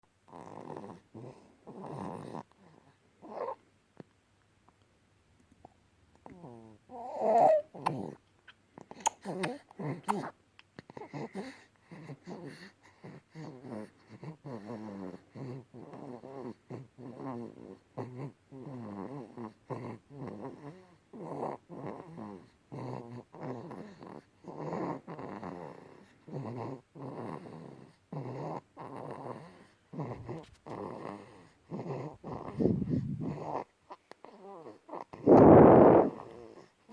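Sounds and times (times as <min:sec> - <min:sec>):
infant snoring: 0:00.3 - 0:03.6, 0:06.2 - 0:08.2, 0:09.2 - 0:10.3, 0:10.9 - 0:36.9.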